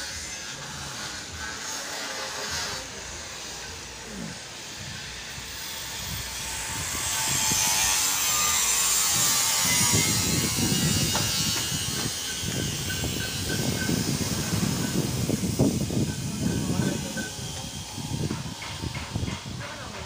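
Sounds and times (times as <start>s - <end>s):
street traffic noise: 0.0s - 20.0s.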